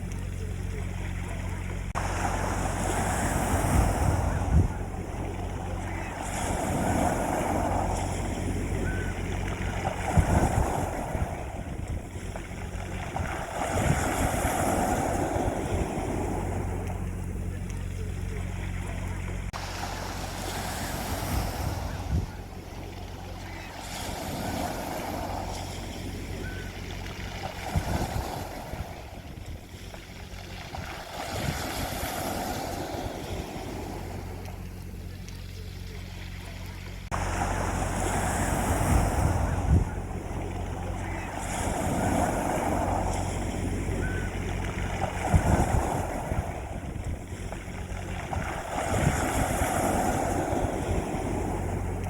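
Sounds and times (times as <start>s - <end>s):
steady low rumble: 0.0s - 52.0s
waves breaking on a beach: 0.0s - 52.0s.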